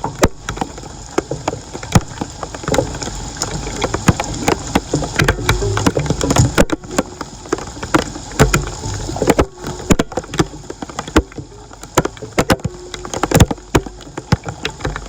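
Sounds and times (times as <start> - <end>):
sharp knocks and clicks: 0.0 - 15.0
water splashing and sloshing: 0.0 - 15.0.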